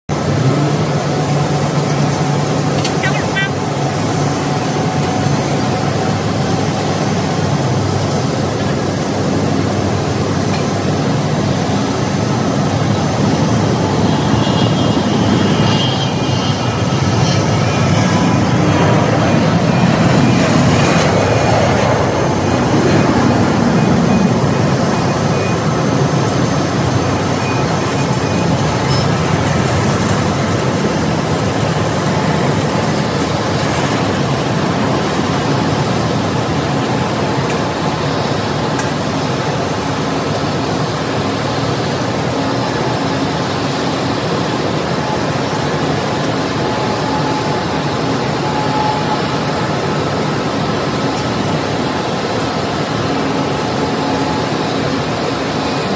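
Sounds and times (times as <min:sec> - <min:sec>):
distant jet engine rumble: 0:00.1 - 0:55.9.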